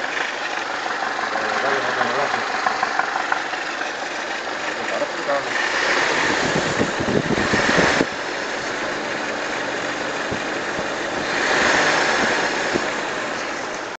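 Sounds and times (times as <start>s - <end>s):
car engine hissing: 0.0s - 14.0s.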